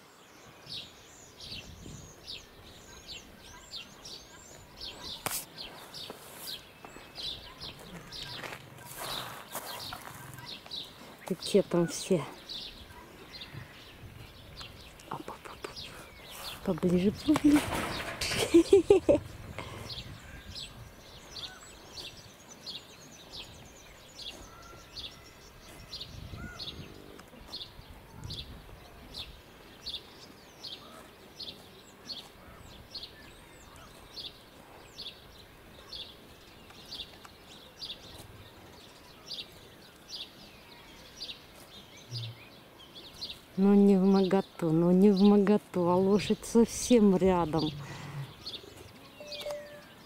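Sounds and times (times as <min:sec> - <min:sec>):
small bird chirping: 0:00.6 - 0:50.0.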